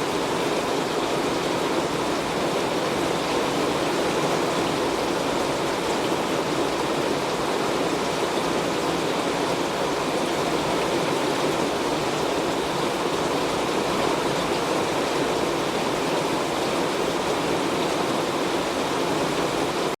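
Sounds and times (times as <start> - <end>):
heavy rain on a metal roof: 0.0 - 20.0.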